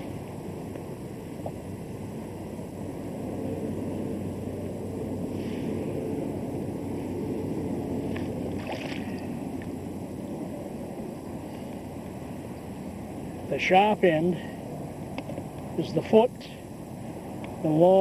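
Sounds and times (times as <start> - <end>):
outdoor rumble: 0.0 - 17.7
low hum: 0.0 - 17.8.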